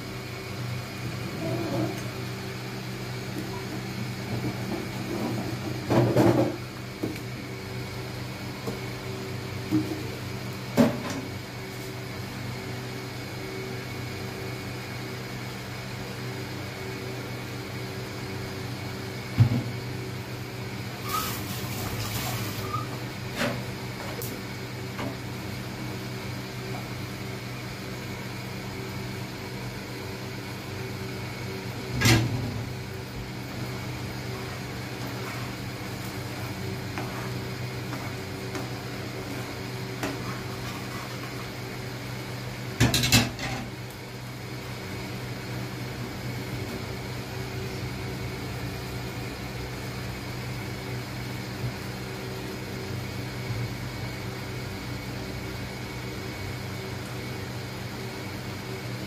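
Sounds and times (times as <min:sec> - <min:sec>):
cooling fan: 0:00.0 - 0:59.0
induction cooktop humming: 0:00.0 - 0:59.0.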